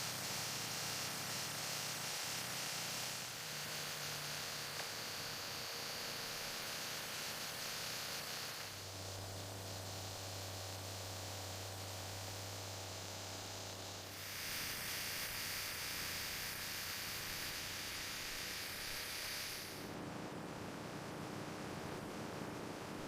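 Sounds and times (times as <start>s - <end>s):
steady hiss: 0.0s - 23.0s
steady low hum: 0.0s - 23.0s.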